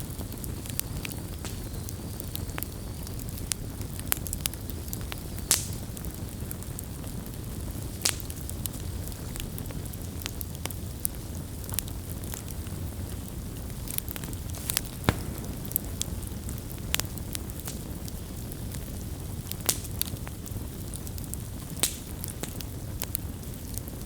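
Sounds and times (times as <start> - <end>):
fire pops and crackles: 0.0 - 24.0
low rumble of flames: 0.0 - 24.0.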